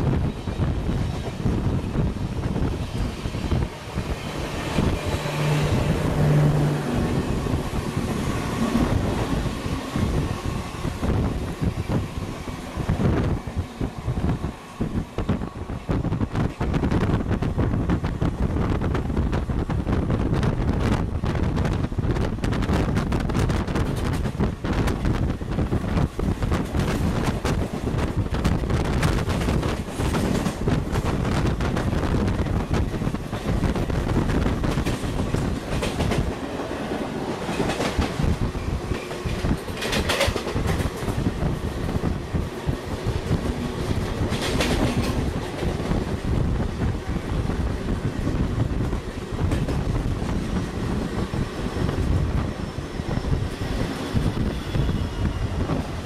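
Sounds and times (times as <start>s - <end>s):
train passing alongside: 0.0s - 56.0s
train rumble: 0.0s - 56.0s.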